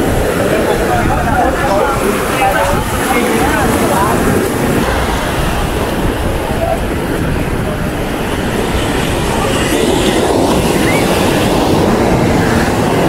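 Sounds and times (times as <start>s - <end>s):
surf: 0.0s - 13.0s
wind buffeting microphone: 0.0s - 13.0s.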